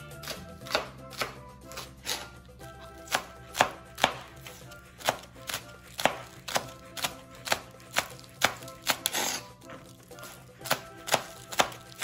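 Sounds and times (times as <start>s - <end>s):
background music: 0.0s - 12.0s
knife chopping on plastic board: 0.2s - 9.4s, 10.6s - 12.0s.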